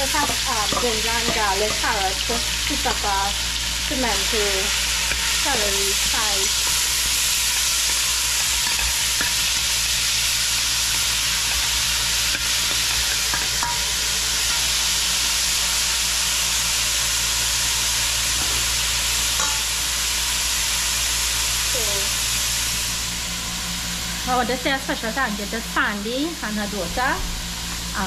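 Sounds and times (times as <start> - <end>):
vegetables sizzling in hot oil: 0.0 - 28.0.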